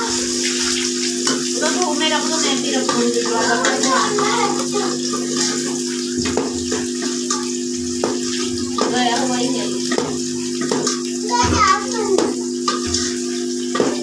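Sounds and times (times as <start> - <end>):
onions sizzling in hot oil: 0.0 - 14.0
metal spoon knocking on pot: 1.2 - 11.6, 12.2 - 14.0.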